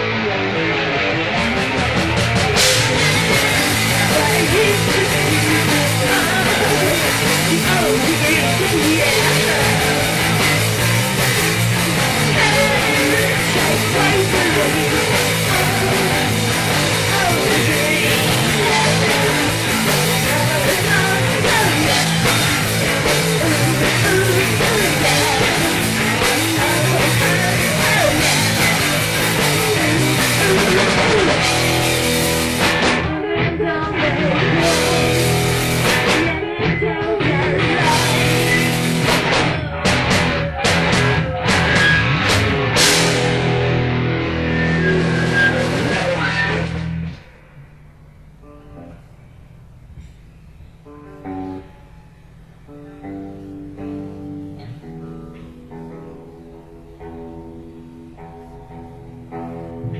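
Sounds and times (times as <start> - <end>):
rock band playing punk song: 0.0 - 59.9.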